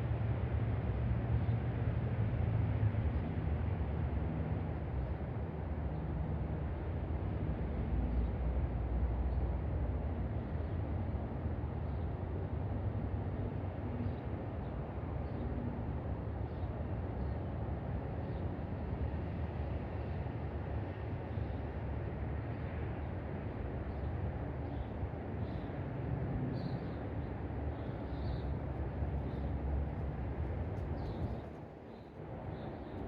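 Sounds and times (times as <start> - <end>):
low rumbling background noise: 0.0 - 33.0.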